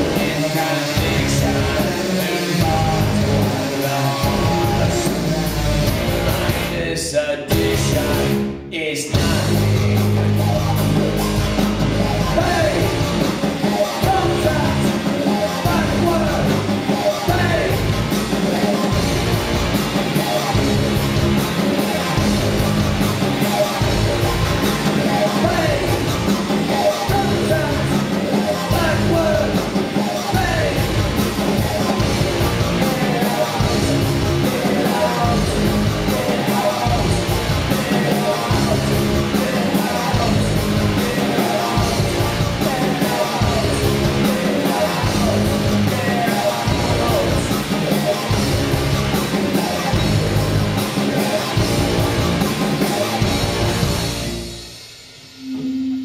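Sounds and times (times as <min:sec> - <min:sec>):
person singing and yelling: 0:00.0 - 0:19.1, 0:21.8 - 0:53.2
live industrial rock band: 0:00.0 - 0:56.0.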